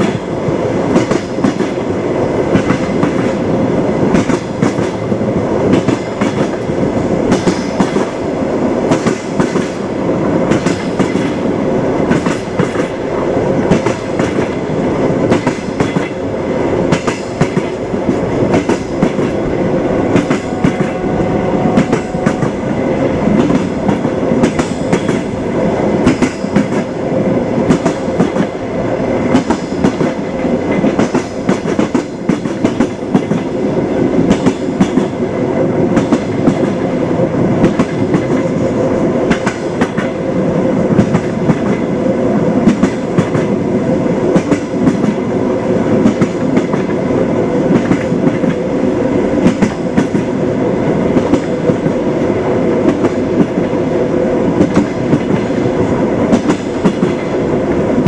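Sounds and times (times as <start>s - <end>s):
train wheels clickety-clack: 0.0s - 58.0s.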